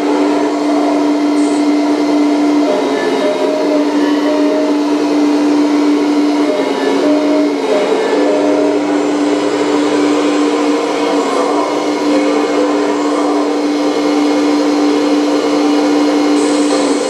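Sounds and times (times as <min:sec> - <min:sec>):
hydraulic pump whining: 0:00.0 - 0:17.0.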